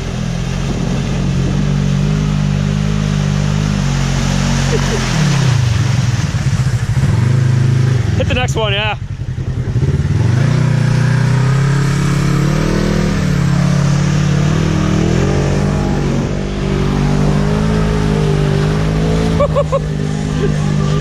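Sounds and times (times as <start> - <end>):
utility vehicle engine revving: 0.0 - 21.0.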